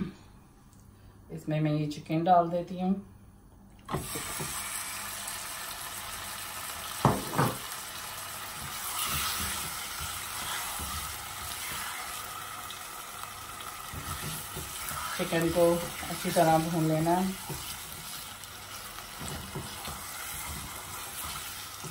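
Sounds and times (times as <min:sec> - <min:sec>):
chicken sizzling in hot oil: 0:03.9 - 0:21.9.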